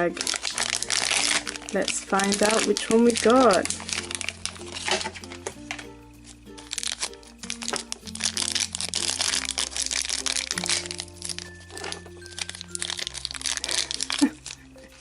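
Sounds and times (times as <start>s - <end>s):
background music: 0.0s - 15.0s
plastic bag crinkling: 0.0s - 15.0s.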